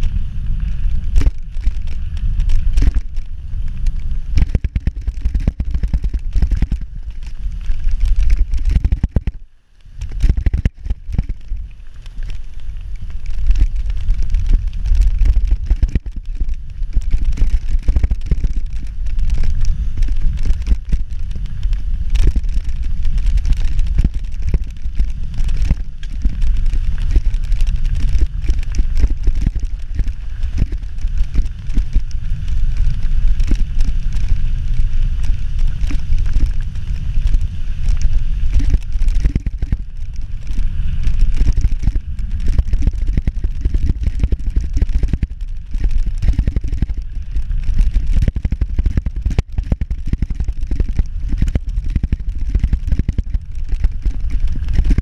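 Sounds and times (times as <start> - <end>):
small clicks from stones: 0.0 - 55.0
tyres crunching over gravel: 0.0 - 55.0
wind buffeting microphone: 0.0 - 55.0.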